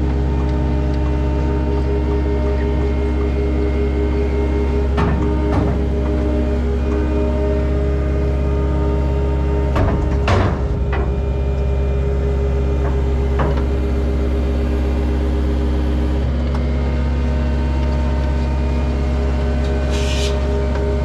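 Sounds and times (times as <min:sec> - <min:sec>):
vehicle engine low drone: 0:00.0 - 0:21.0.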